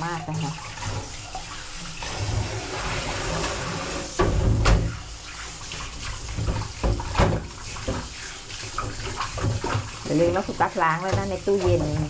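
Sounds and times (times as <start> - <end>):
tap running into bowl of water: 0.0 - 5.0, 5.7 - 12.0
water splashing in bowl: 0.0 - 12.0.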